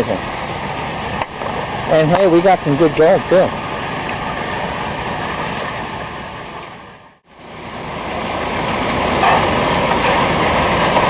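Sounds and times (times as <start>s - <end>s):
engine running: 0.0s - 11.0s
water and gravel rushing through hose: 0.0s - 11.0s.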